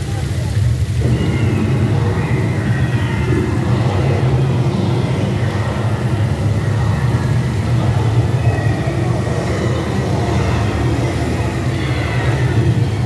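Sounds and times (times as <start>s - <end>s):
ride vehicle low rumble: 0.0s - 13.0s.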